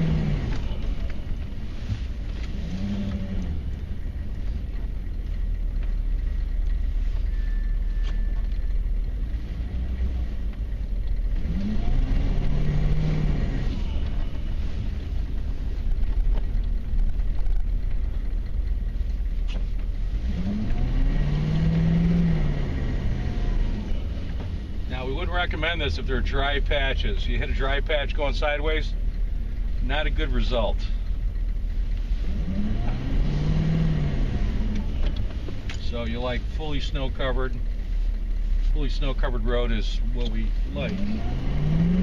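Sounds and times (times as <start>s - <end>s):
diesel truck engine revving: 0.0s - 42.0s.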